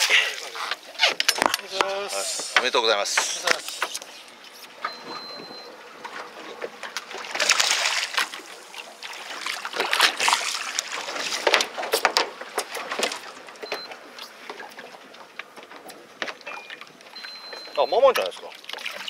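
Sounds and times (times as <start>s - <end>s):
water splashing on a boat: 0.0s - 19.0s.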